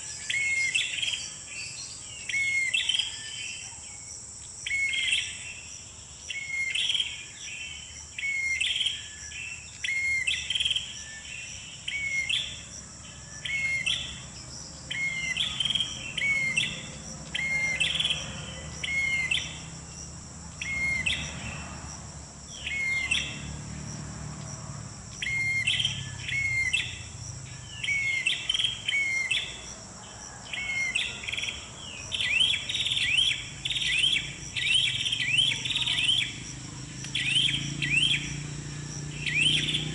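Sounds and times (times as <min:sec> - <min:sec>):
bird chirping phrases: 0:00.0 - 0:21.8, 0:22.5 - 0:23.7, 0:25.1 - 0:39.9
insects high drone: 0:00.0 - 0:39.9.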